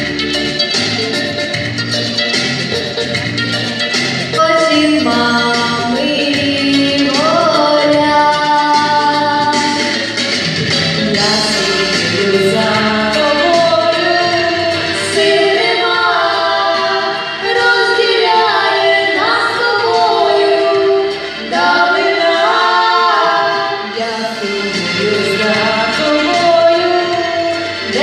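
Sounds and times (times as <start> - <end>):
women singing a duet: 4.4 - 10.2, 10.8 - 28.0.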